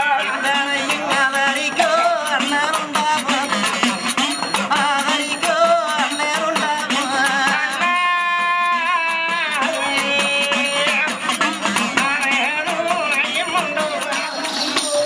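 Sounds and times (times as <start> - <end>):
man singing: 0.0 - 15.0
steady percussion beat: 0.0 - 15.0.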